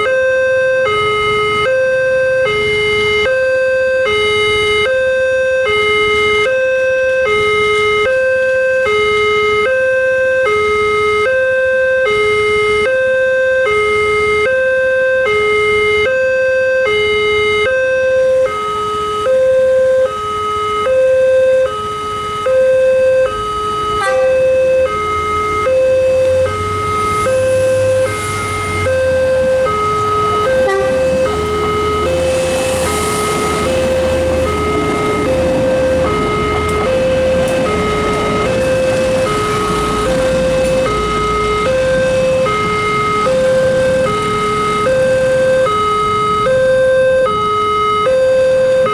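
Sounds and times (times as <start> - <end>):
two-tone crossing alarm: 0.0 - 48.9.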